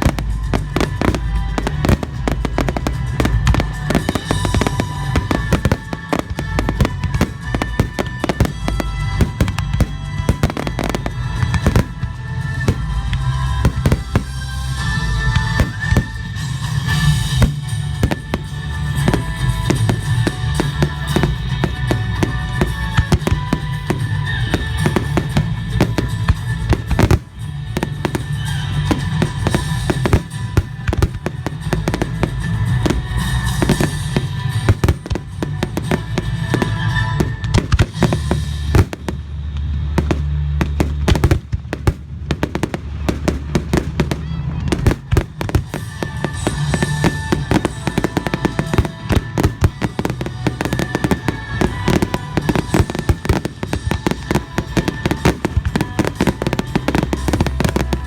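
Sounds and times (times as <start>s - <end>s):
crackling firework bursts: 0.0s - 58.0s
fireworks booming and cracking: 0.0s - 58.0s
music playing: 0.0s - 58.0s.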